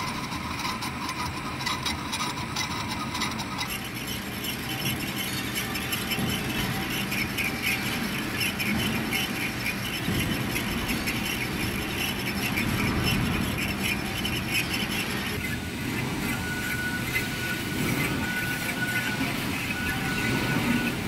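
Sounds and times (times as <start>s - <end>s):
lathe motor hum: 0.0s - 21.0s
high-pitched cutting chatter: 1.2s - 21.0s.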